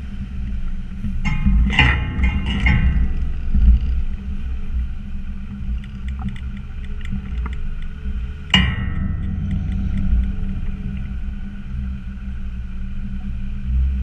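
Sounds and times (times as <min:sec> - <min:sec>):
small rattles: 0:00.0 - 0:12.4
vehicle clunk: 0:00.0 - 0:12.4
diesel engine rumbling: 0:00.0 - 0:14.0.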